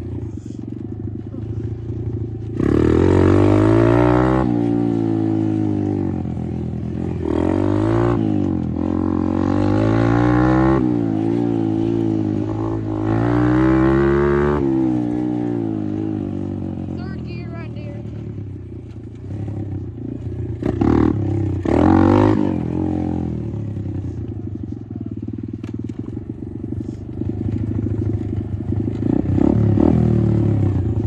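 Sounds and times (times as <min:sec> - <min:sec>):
dirt bike engine revving: 0:01.3 - 0:24.2, 0:25.3 - 0:31.0.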